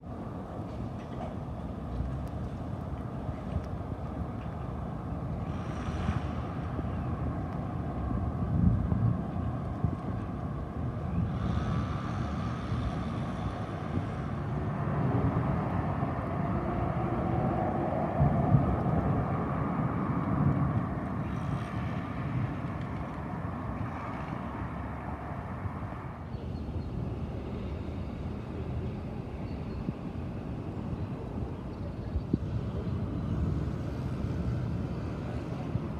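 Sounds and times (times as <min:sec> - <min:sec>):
traffic rumble: 0:00.0 - 0:35.9
vehicles passing: 0:00.0 - 0:35.9
wind buffeting microphone: 0:00.0 - 0:35.9.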